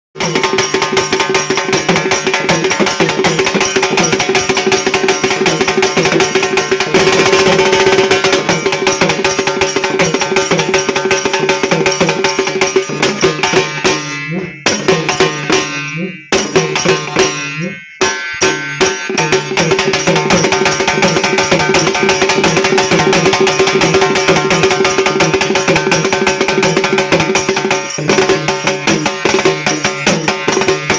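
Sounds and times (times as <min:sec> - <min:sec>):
loud music with fast drum beat: 0:00.2 - 0:17.4, 0:18.0 - 0:30.9.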